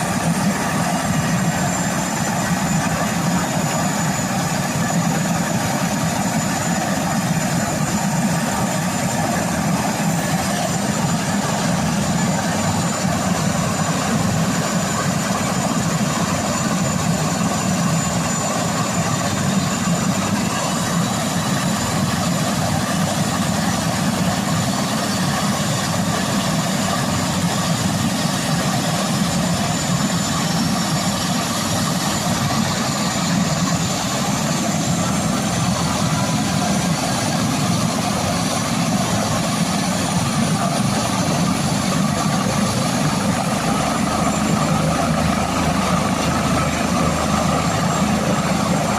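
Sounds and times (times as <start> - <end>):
helicopter engine and rotor: 0.0 - 48.9.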